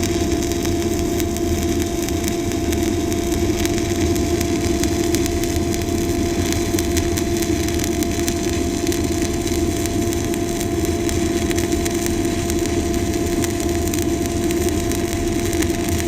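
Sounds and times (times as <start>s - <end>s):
steady hum: 0.0s - 16.0s
welding arc crackling: 0.0s - 16.0s.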